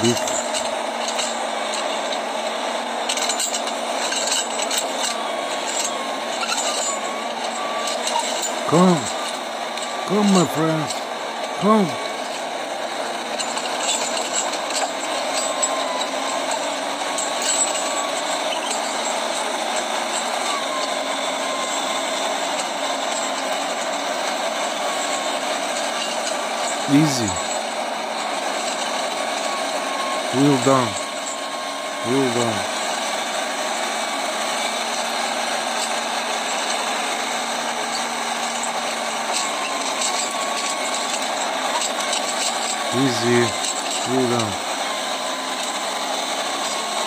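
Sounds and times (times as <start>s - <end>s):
tyre chains clinking on stone: 0.0s - 33.8s, 34.5s - 47.0s
diesel engine running: 0.0s - 47.0s.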